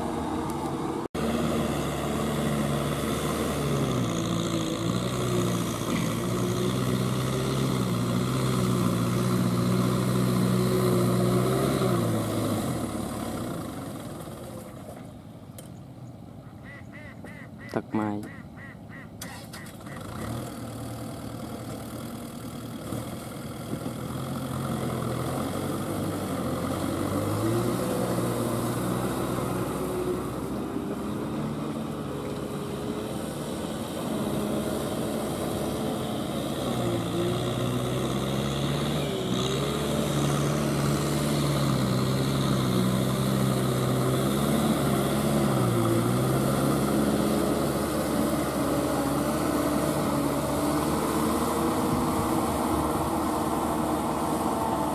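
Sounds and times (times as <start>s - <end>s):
tractor diesel engine under load: 0.0s - 15.5s, 17.7s - 54.9s.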